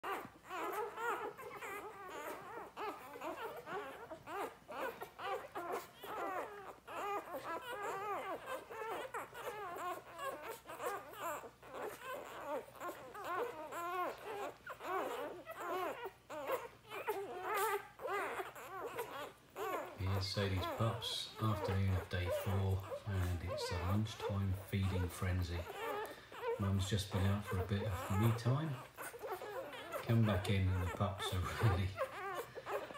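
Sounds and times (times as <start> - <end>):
puppies squeaking and whimpering: 0.0 - 32.9.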